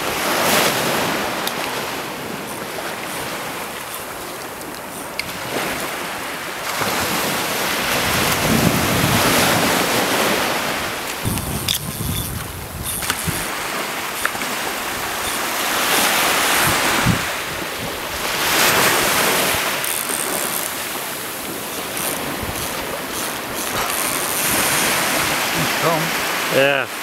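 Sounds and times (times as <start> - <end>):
small waves on sandy beach: 0.0 - 27.0.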